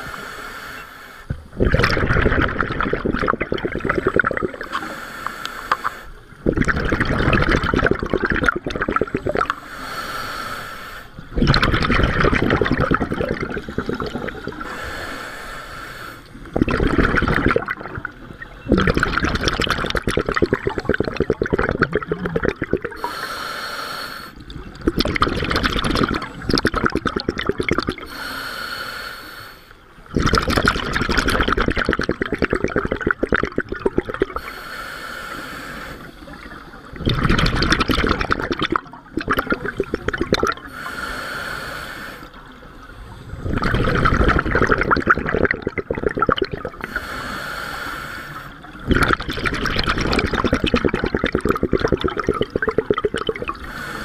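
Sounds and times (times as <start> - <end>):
gurgling bubbles exhale: 1.3 - 5.0, 5.7 - 10.2, 11.1 - 15.5, 16.1 - 23.3, 24.3 - 28.3, 30.0 - 34.6, 35.8 - 54.0.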